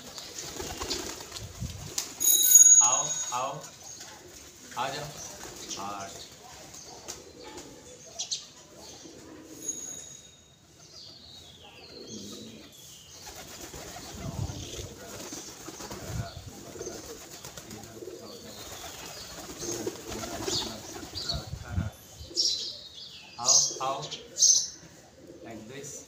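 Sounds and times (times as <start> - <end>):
pigeons cooing: 0.0 - 2.0, 3.7 - 9.7, 10.7 - 26.0.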